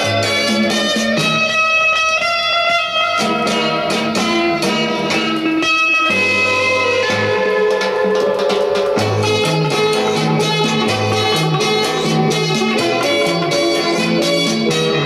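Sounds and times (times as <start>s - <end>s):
guitar music with bass line: 0.0s - 15.0s.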